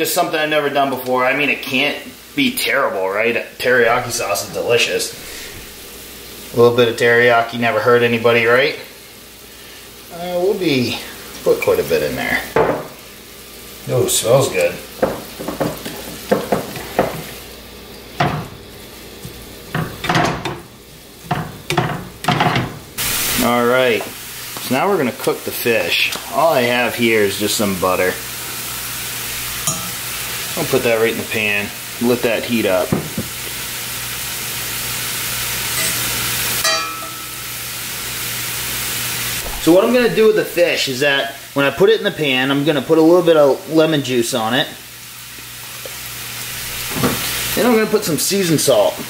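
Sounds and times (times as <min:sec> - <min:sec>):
cabbage frying in a pan: 0:00.0 - 0:49.0
steady sizzle: 0:00.0 - 0:49.0.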